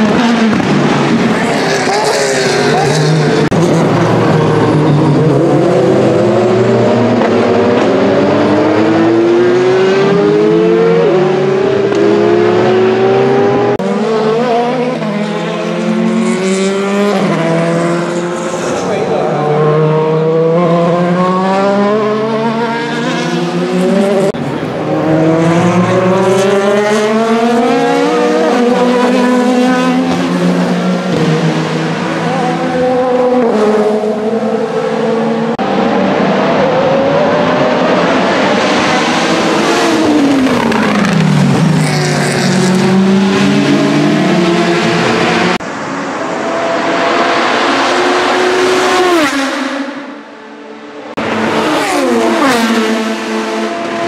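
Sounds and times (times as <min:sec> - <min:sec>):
race car engine passing at speed: 0:00.0 - 0:54.0.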